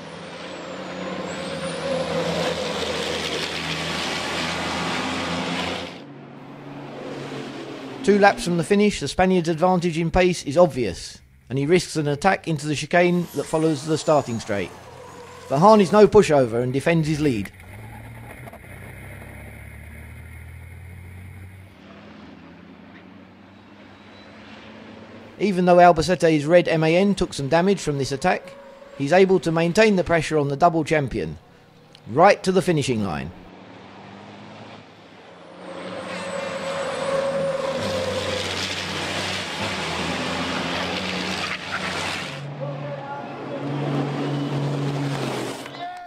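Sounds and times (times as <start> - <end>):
distant truck engine: 0.0 - 46.0
truck diesel engines droning: 0.0 - 46.0.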